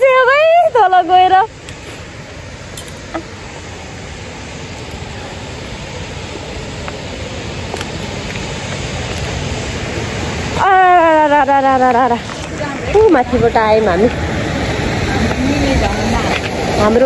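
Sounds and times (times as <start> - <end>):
stream and small waterfall rushing: 0.0 - 17.0.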